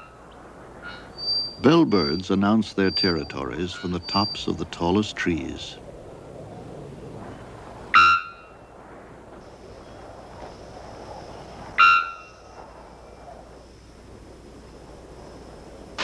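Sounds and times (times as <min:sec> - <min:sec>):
forest background hiss: 0:00.0 - 0:16.0.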